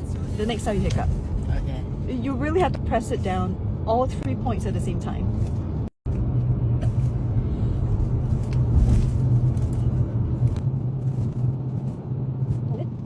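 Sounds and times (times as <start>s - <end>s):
low rumble with hum: 0.0s - 13.0s.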